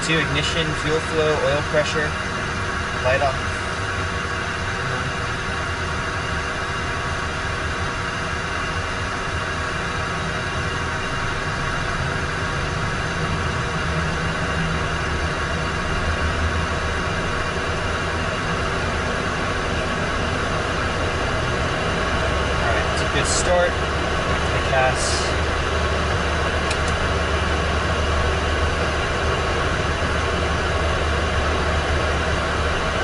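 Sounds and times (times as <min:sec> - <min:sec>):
jet engine whine and rush: 0:00.0 - 0:33.0
low hum: 0:00.0 - 0:33.0.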